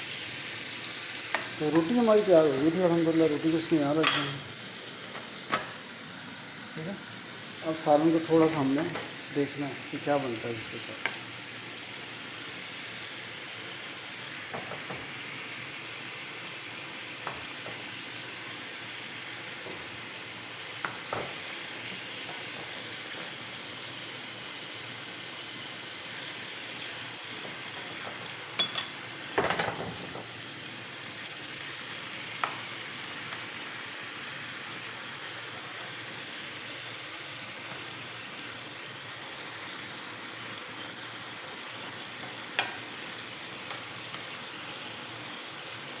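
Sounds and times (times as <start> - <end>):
curry sizzling in a pot: 0.0 - 46.0.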